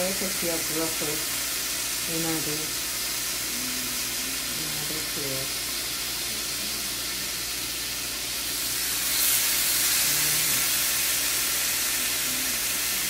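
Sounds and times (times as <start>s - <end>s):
bacon sizzling in frying pan: 0.0s - 13.0s.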